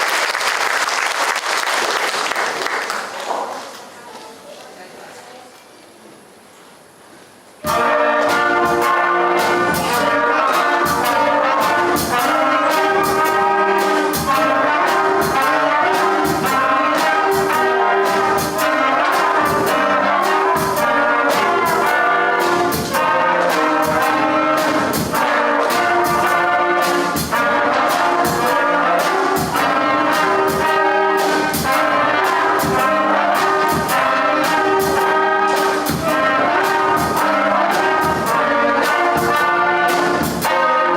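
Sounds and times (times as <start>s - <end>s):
concert band playing: 7.6s - 40.9s
percussion hits: 7.6s - 40.9s.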